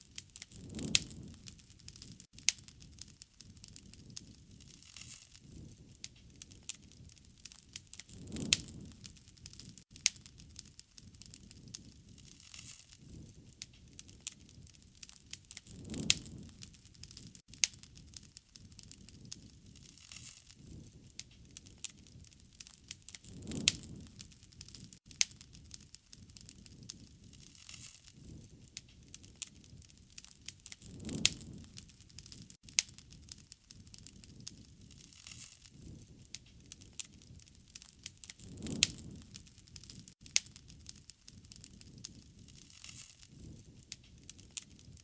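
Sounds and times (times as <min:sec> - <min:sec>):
wood fire crackling: 0:00.0 - 0:45.0
low swell of flames: 0:00.1 - 0:45.0
sharp pops of fire: 0:00.1 - 0:45.0.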